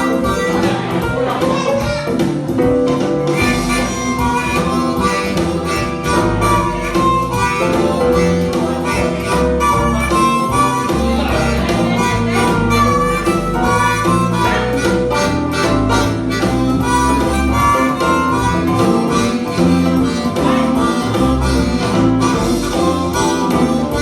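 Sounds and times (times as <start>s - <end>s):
guitar bass and beat: 0.0s - 24.0s
harmonica playing blues: 0.0s - 24.0s.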